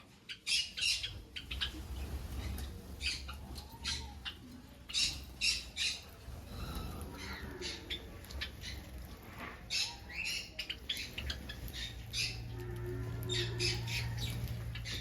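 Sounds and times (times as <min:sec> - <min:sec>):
finches calling: 0:00.3 - 0:15.0.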